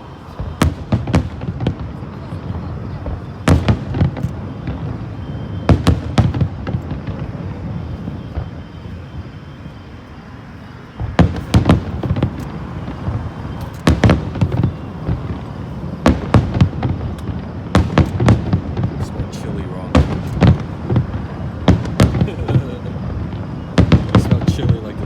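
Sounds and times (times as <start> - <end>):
fireworks bursting: 0.0 - 25.0.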